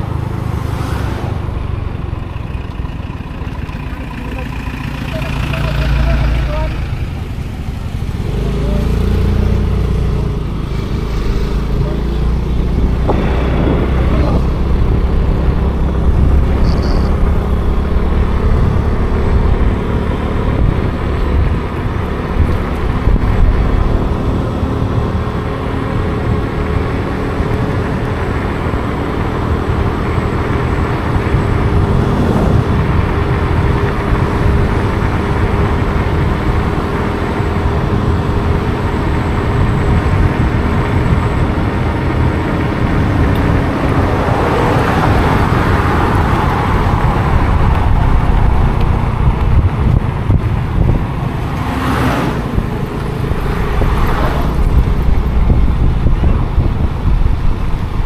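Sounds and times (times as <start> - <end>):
low road rumble: 0.0 - 58.0
traffic passing: 0.0 - 58.0
vehicle engine hum: 0.0 - 58.0.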